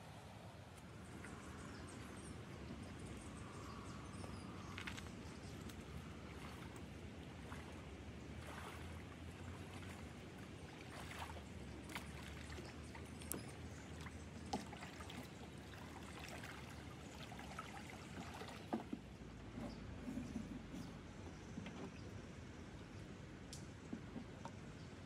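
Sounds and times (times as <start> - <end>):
low steady background noise: 0.0 - 25.0
lake water lapping: 0.8 - 22.2.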